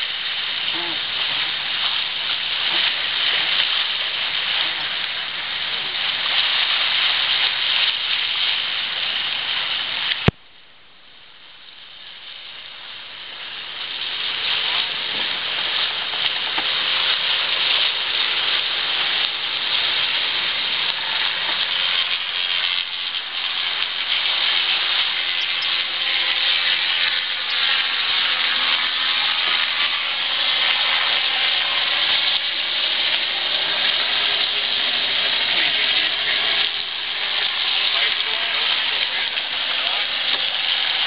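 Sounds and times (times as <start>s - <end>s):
water rushing past hull: 0.0s - 41.0s.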